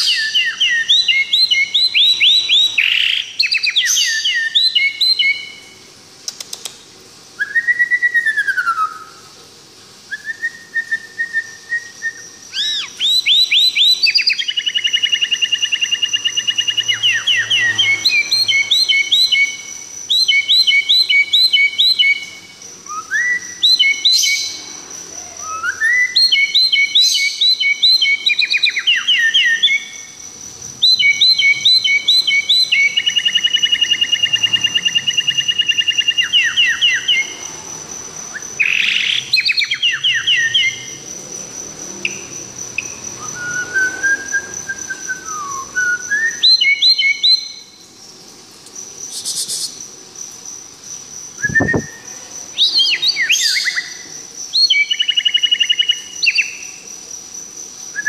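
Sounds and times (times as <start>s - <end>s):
bird singing chirps and whistles: 0.0s - 5.8s, 7.4s - 9.2s, 10.1s - 24.6s, 25.3s - 30.2s, 30.8s - 37.4s, 38.3s - 41.0s, 42.0s - 47.8s, 51.4s - 56.8s.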